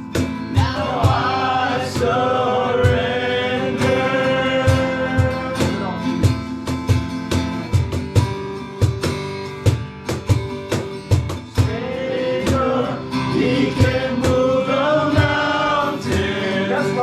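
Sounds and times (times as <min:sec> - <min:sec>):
steady drum beat: 0:00.0 - 0:17.0
strummed acoustic guitar: 0:00.0 - 0:17.0.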